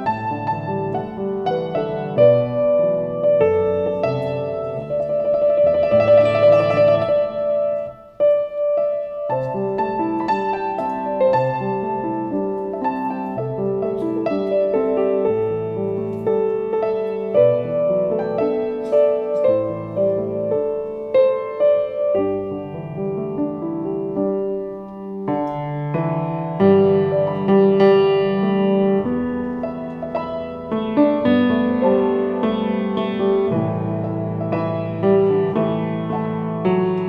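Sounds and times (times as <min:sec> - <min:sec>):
solo piano melody: 0:00.0 - 0:37.0.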